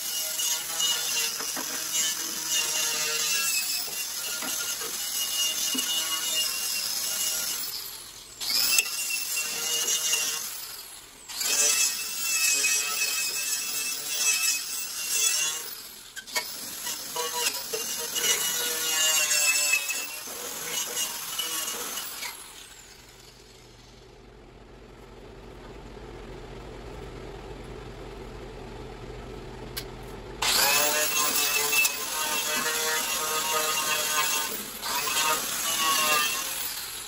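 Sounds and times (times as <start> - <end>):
angle grinder grinding metal: 0.0 - 23.8, 30.4 - 37.0.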